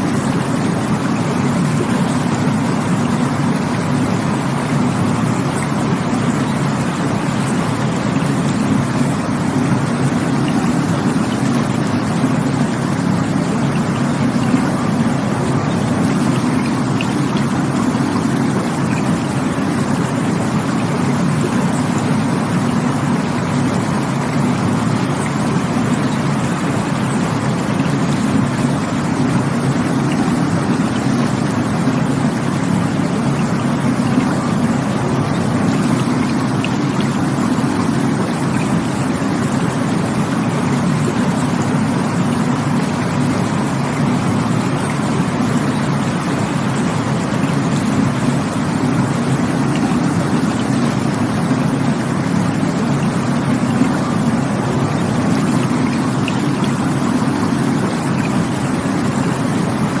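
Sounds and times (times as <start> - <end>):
rushing water: 0.0 - 60.0.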